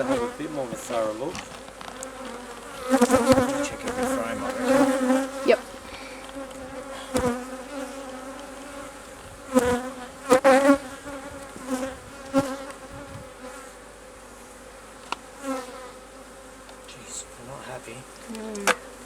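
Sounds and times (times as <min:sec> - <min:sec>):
honey bees buzzing: 0:00.0 - 0:19.0.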